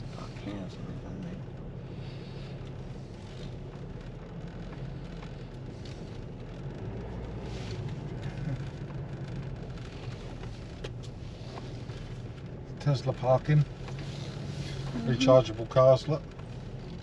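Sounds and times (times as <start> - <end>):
car engine hum: 0.0 - 17.0
tyre and road rumble: 0.0 - 17.0.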